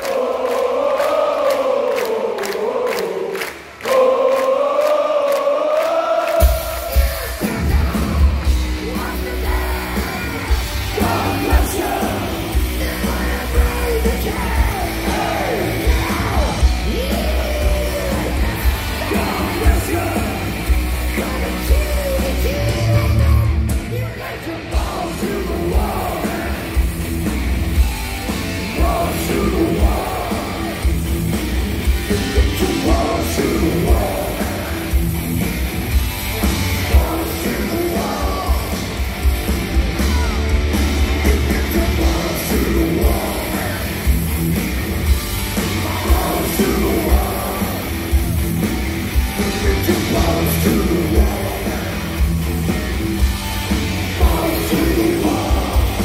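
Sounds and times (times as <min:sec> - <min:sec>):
person singing lead vocal: 0:00.0 - 0:27.0, 0:28.6 - 0:31.0, 0:32.0 - 0:35.1, 0:36.3 - 0:39.1, 0:39.8 - 0:44.2, 0:45.5 - 0:48.3, 0:49.2 - 0:52.4, 0:54.0 - 0:56.0
drums: 0:05.9 - 0:56.0
distorted electric guitars: 0:06.4 - 0:56.0
heavy metal band playing live: 0:06.4 - 0:56.0.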